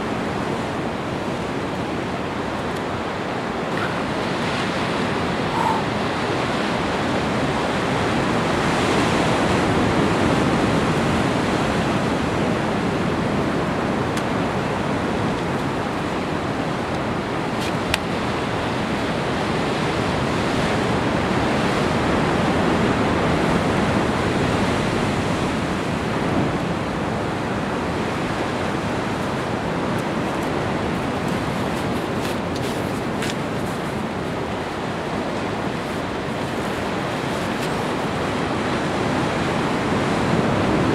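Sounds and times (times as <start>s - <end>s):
ocean surf breaking on rocks: 0.0s - 40.9s.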